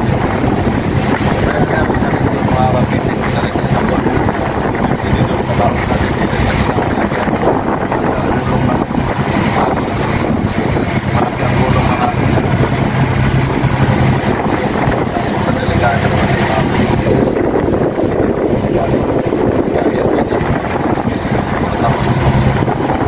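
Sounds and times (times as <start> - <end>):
boat engine humming: 0.0 - 23.0
sea rushing: 0.0 - 23.0
wind buffeting the microphone: 0.0 - 23.0.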